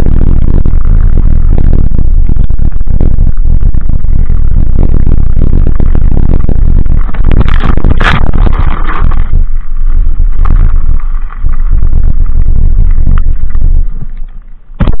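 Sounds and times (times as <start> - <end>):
scooter rumbling over gravel: 0.0 - 15.0
wind buffeting microphone: 0.0 - 15.0.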